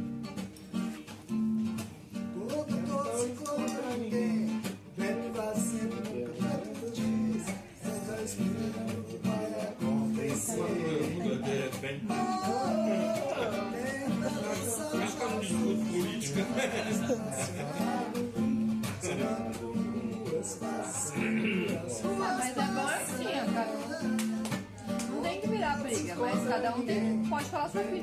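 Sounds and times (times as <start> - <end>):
acoustic guitar strumming: 0.0 - 28.0
person singing: 2.4 - 28.0.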